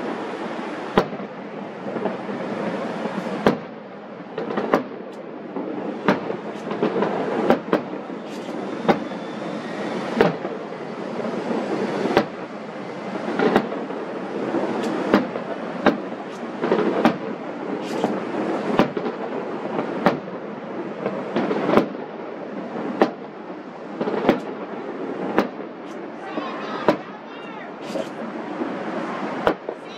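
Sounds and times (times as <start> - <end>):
distant fireworks bursting: 0.0 - 29.9.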